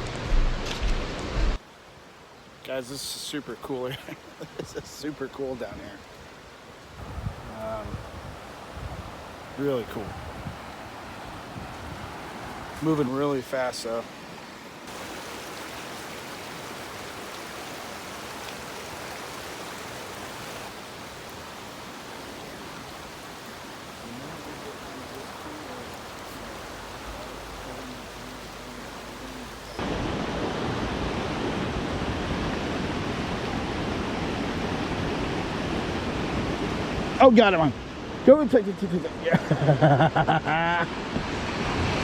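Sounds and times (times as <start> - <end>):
creek water rushing: 1.6 - 42.0.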